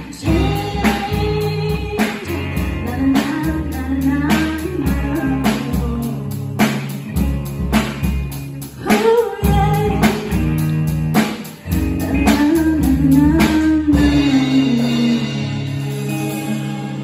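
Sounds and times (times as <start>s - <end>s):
woman singing: 0.0s - 7.1s, 8.6s - 10.9s, 11.7s - 17.0s
live rock band playing: 0.0s - 17.0s
slow drum beat: 0.0s - 17.0s.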